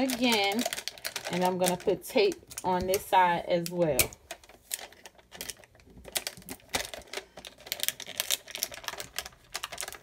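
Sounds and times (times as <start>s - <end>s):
plastic shrink wrap crinkling: 0.0s - 10.0s.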